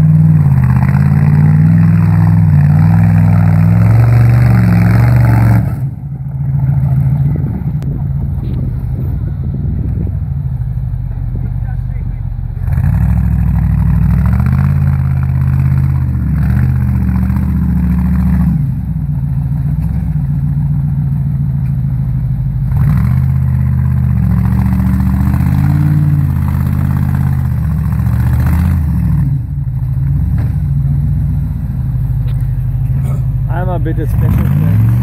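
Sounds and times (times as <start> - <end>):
engine revving under load: 0.0 - 19.2, 22.6 - 35.0.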